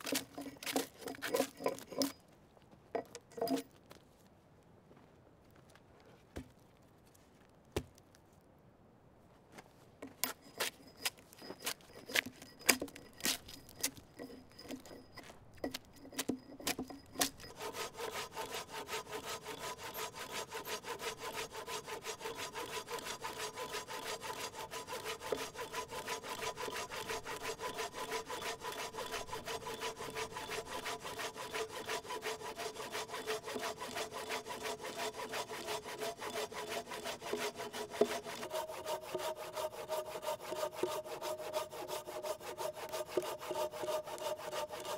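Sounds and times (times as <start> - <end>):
hand saw cutting wood: 0.0 - 2.2, 3.0 - 3.6, 10.0 - 44.9.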